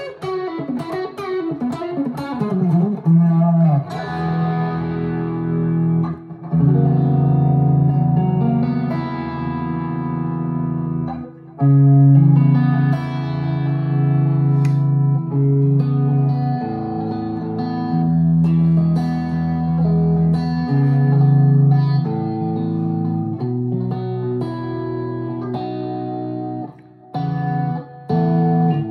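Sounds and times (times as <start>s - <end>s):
electric guitar chords ringing: 0.0s - 28.9s.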